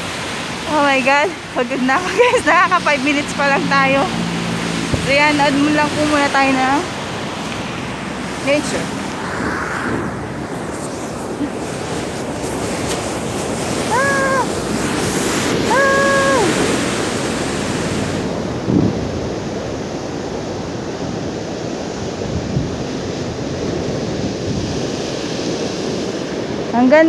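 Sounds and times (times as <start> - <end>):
waves breaking on rocks: 0.0 - 26.7
wind buffeting microphone: 0.0 - 27.0.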